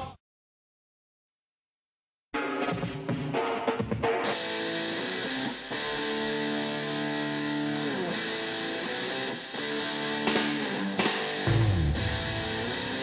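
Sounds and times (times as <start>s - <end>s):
guitar chords: 2.4s - 13.0s.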